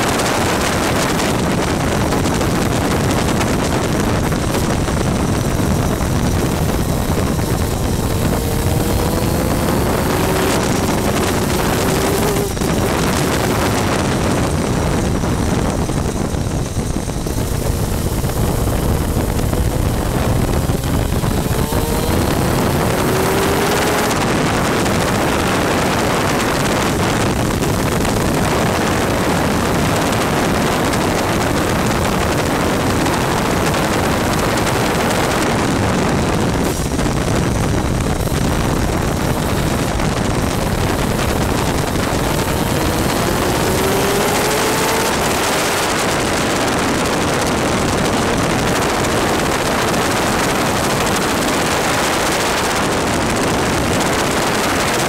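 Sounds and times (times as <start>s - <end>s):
two-stroke kart engine racing: 0.0s - 55.0s
wind and water spray on microphone: 0.0s - 55.0s.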